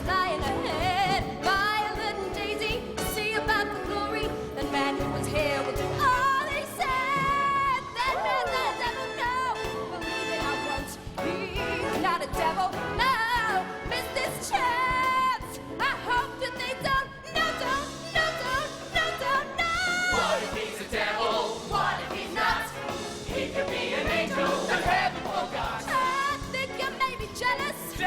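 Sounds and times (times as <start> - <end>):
band accompaniment: 0.0 - 28.0.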